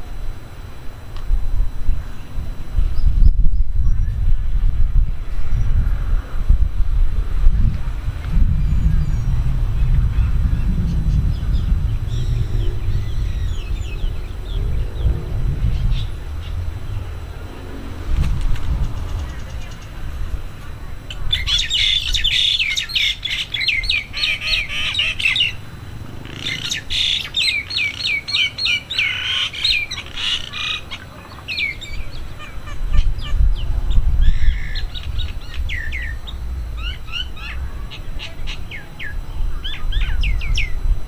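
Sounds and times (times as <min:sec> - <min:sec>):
low rumble: 0:00.0 - 0:22.4, 0:23.8 - 0:27.3, 0:32.0 - 0:41.0
small birds chirping: 0:07.2 - 0:41.0.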